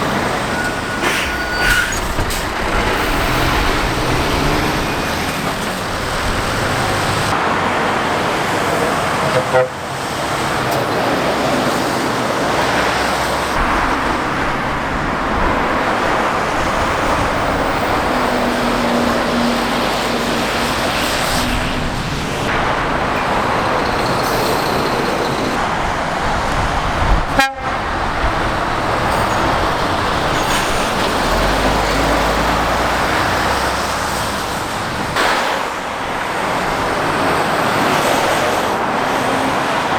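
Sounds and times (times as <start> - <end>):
traffic passing at speed: 0.0 - 39.9.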